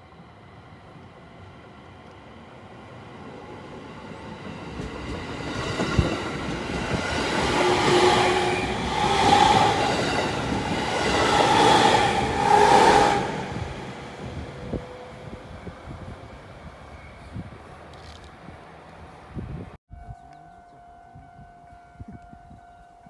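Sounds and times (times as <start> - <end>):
train hum: 0.0 - 22.9.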